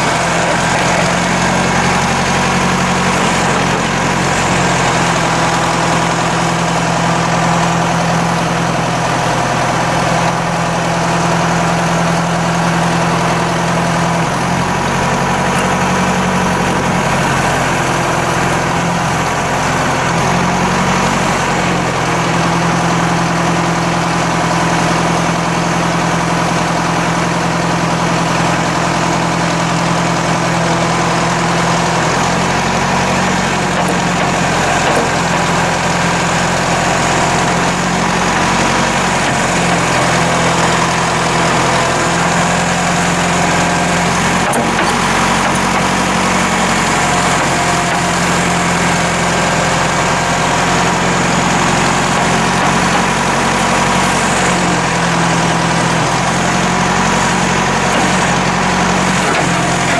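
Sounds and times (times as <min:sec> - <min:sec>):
backhoe engine running: 0:00.0 - 0:59.9
hydraulic boom working: 0:00.0 - 0:59.9.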